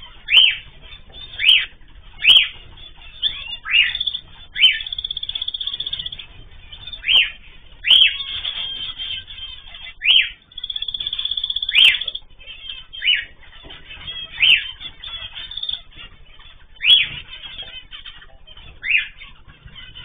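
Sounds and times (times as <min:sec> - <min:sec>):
birds chattering and trilling: 0:00.0 - 0:20.0
cage birds calling loudly: 0:00.0 - 0:20.0.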